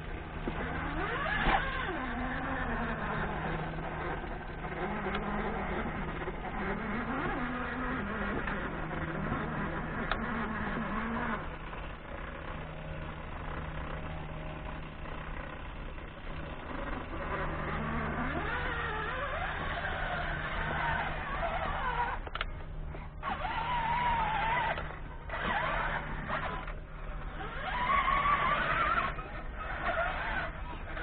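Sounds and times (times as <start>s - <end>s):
rc truck motor whining: 0.0s - 31.0s.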